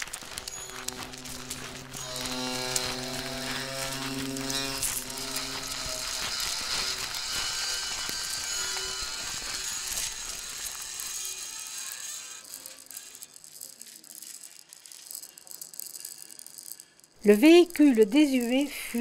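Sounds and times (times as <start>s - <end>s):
held tones: 0.0s - 19.0s
mechanical rattling and clicking: 0.0s - 19.0s.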